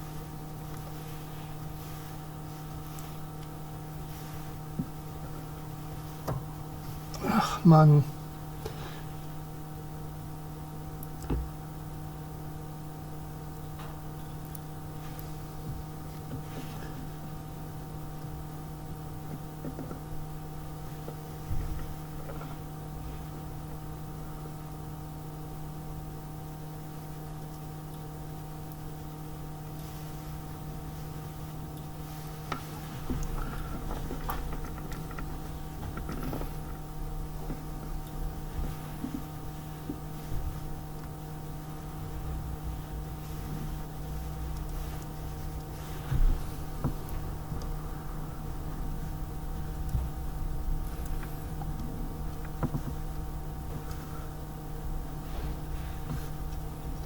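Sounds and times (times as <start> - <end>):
steady multi-tone hum: 0.0 - 57.0.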